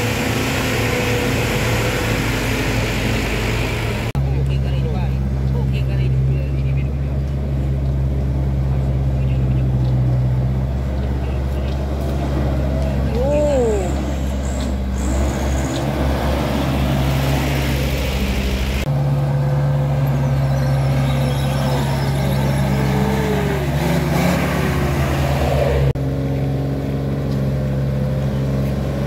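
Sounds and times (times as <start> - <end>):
diesel truck engines droning: 0.0 - 29.0.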